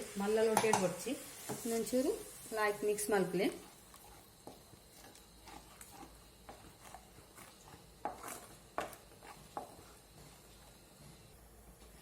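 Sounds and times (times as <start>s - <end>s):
spoon scraping and knocking pan: 0.4s - 2.0s, 3.2s - 12.0s.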